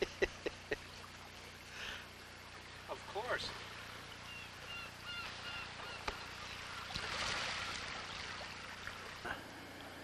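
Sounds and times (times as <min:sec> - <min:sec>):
water washing along shore: 0:00.0 - 0:10.0.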